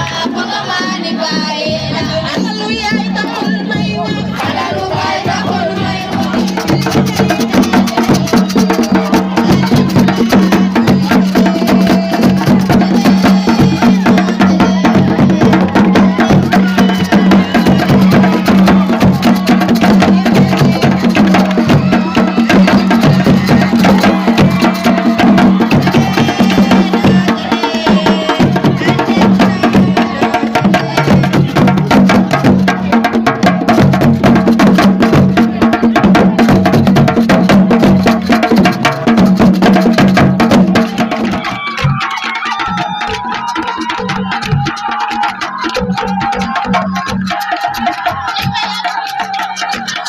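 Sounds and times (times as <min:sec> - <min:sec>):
voices: 0:00.0 - 0:33.4, 0:40.6 - 0:50.0
fast dense drumming: 0:00.0 - 0:50.0.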